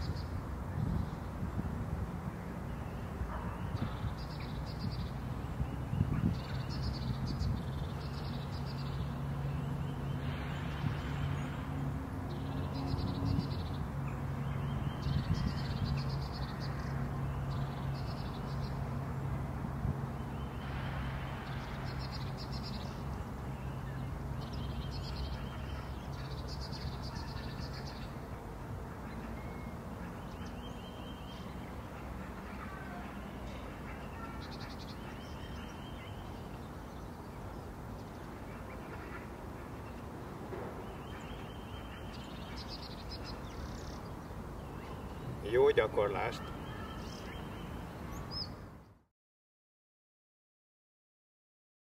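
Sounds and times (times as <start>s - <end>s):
birds chirping: 2.6s - 19.0s, 20.1s - 49.0s.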